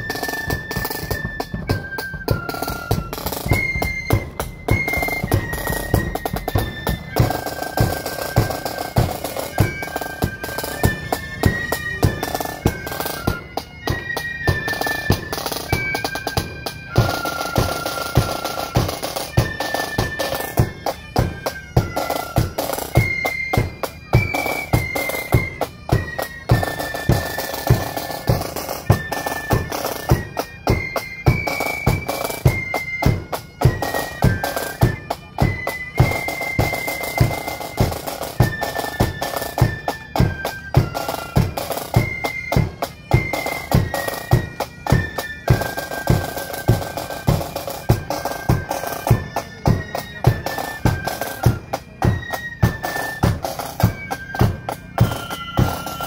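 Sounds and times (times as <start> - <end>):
flute melody: 0.0 - 56.0
snare drums: 0.0 - 56.0
bass drum beating march time: 0.1 - 56.0.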